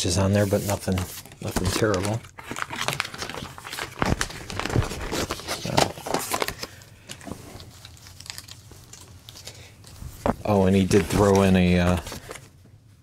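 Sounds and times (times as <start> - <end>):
paper sleeves rustling and scraping: 0.2 - 12.6.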